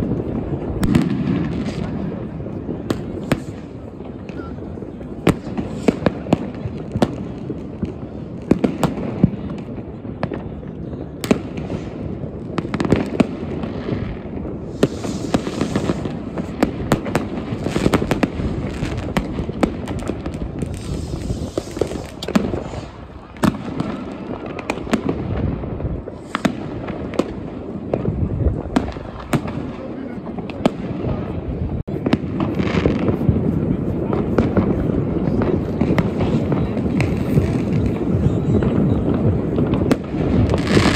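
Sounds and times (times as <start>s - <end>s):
dense firework crackling: 0.0s - 40.9s
firework bangs and pops: 0.0s - 40.9s.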